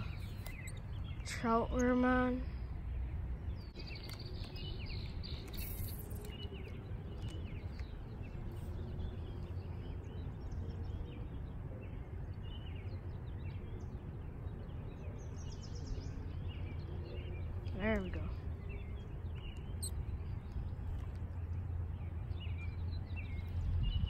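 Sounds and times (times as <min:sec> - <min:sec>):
small birds chirping: 0:00.0 - 0:24.0
wind rumbling on microphone: 0:00.0 - 0:24.0.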